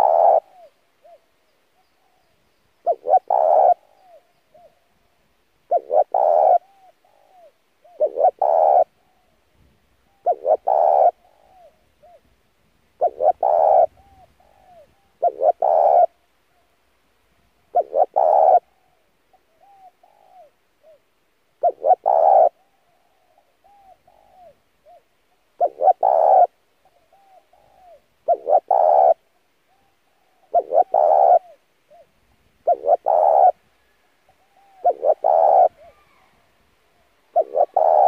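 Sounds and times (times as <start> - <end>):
dove cooing: 0.0 - 1.3, 2.8 - 4.9, 5.7 - 9.4, 10.1 - 12.3, 13.0 - 16.6, 17.7 - 21.0, 21.6 - 38.0
faint short curved calls: 0.0 - 4.9, 5.7 - 9.4, 10.0 - 12.3, 13.0 - 16.8, 17.7 - 38.0.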